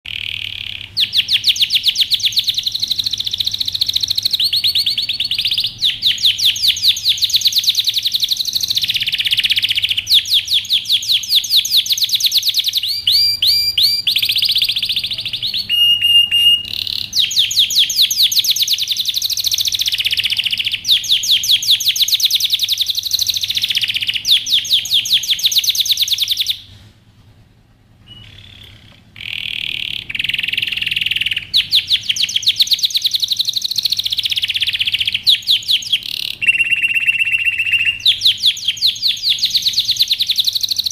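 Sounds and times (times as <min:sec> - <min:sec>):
canary singing trills: 0:00.0 - 0:26.8, 0:28.0 - 0:40.9.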